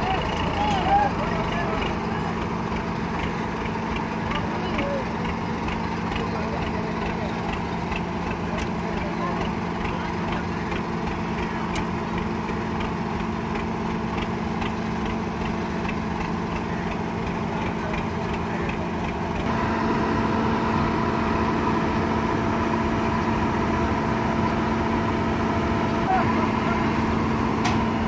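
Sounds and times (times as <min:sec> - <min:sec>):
diesel engines running: 0:00.0 - 0:28.0.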